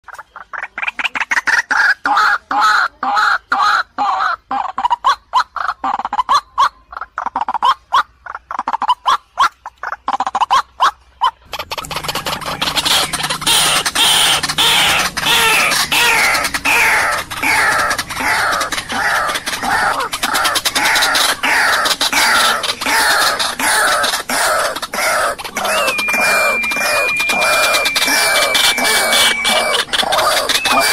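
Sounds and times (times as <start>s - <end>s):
waterhens calling: 0.1s - 30.9s.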